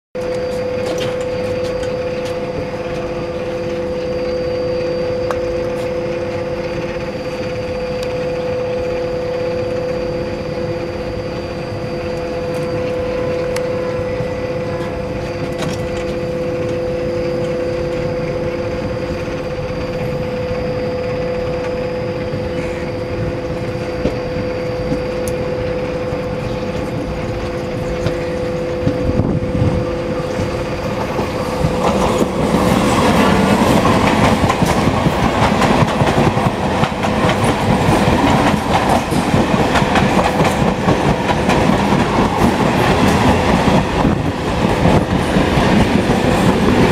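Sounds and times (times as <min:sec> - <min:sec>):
diesel locomotive engine chugging: 0:00.2 - 0:46.9
high steady whine: 0:00.2 - 0:46.9.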